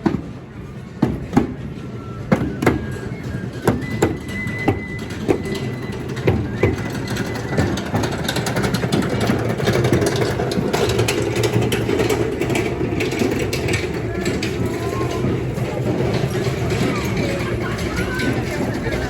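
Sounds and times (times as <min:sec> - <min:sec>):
crowd street din: 0:00.0 - 0:19.0.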